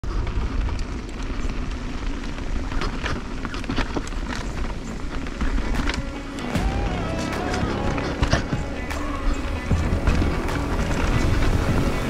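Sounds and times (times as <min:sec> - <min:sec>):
bike clicks and rattles: 0:00.0 - 0:06.8, 0:07.4 - 0:12.0
wind rumble on microphone: 0:00.0 - 0:07.2, 0:07.8 - 0:12.0
bike tyres on gravel: 0:00.0 - 0:12.0.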